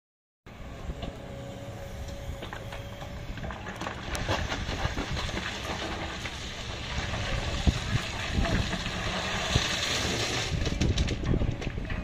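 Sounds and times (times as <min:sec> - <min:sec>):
excavator diesel engine running: 0:00.5 - 0:12.0.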